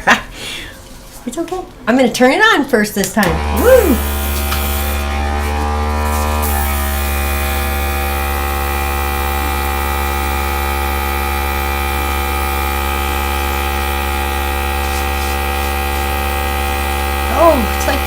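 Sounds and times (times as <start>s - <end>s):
electric air gun humming: 3.2s - 18.0s.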